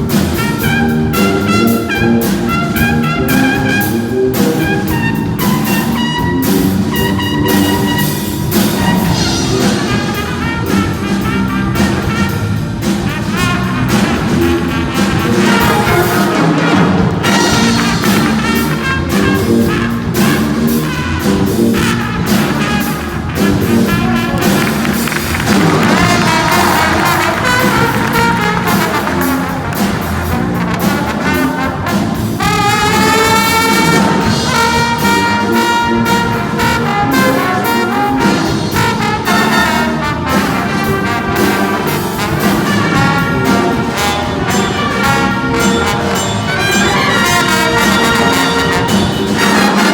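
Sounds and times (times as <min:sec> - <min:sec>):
brass section playing: 0:00.0 - 0:49.9
drum kit groove: 0:00.0 - 0:49.9.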